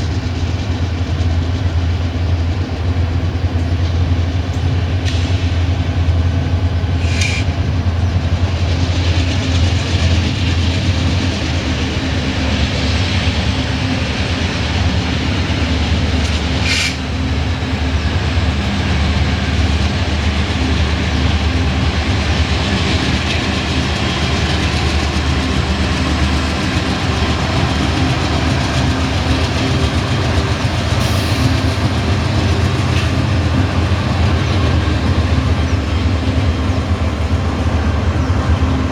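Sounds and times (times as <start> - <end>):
diesel locomotives running: 0.0 - 38.9
rumble of rolling train cars: 0.0 - 38.9.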